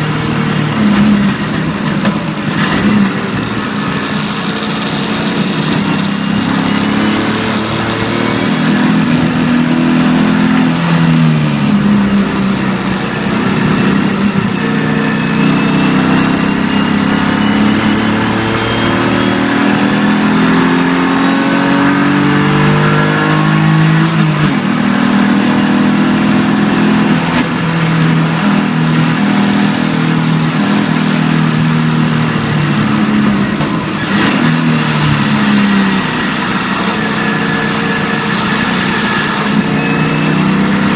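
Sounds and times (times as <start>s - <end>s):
car engine accelerating from inside cabin: 2.5s - 40.9s.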